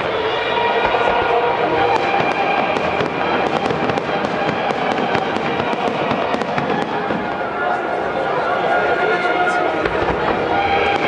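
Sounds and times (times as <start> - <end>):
fireworks crackling and popping: 0.0 - 8.8, 9.4 - 11.0.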